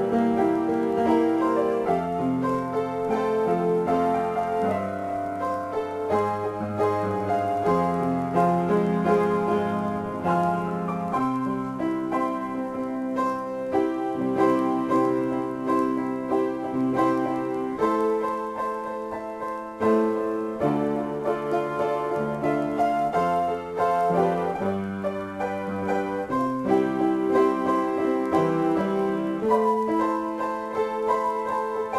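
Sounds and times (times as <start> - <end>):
solo piano playing: 0.0 - 31.9.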